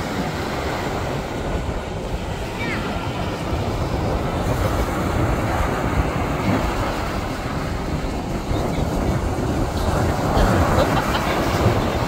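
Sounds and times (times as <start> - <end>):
jet airliner roaring overhead: 0.0 - 12.0
wind buffeting microphone: 0.0 - 12.0.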